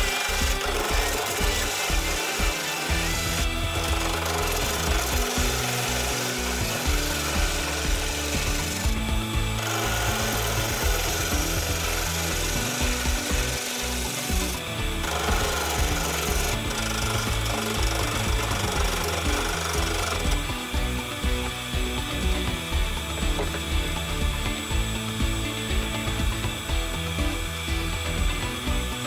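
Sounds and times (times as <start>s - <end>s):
gouge cutting wood on a lathe: 0.0s - 29.0s.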